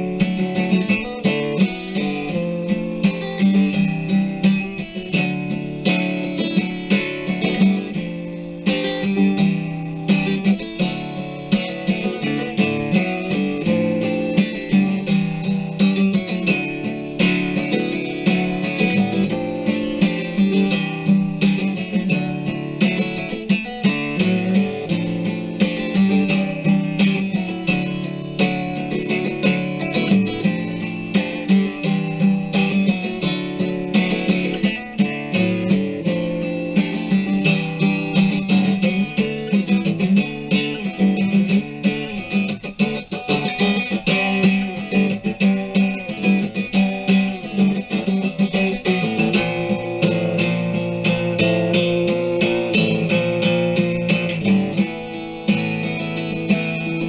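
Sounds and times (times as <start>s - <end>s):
guitar strumming: 0.0s - 57.0s.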